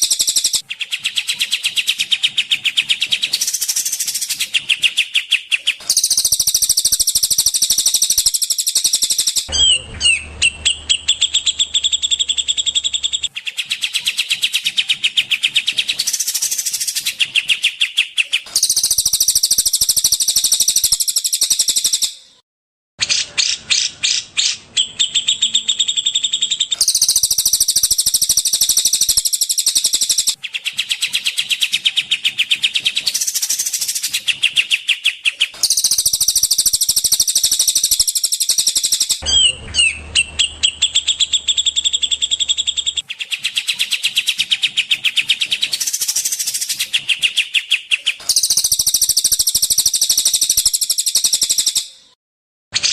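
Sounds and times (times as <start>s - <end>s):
songbird trilling: 0.0s - 22.2s, 23.1s - 51.9s.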